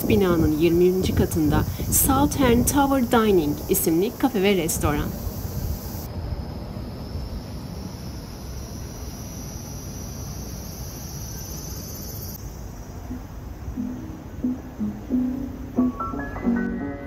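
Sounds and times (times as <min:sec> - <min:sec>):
high-pitched insect drone: 0:00.0 - 0:06.1, 0:07.0 - 0:17.0
low city rumble: 0:00.0 - 0:17.0.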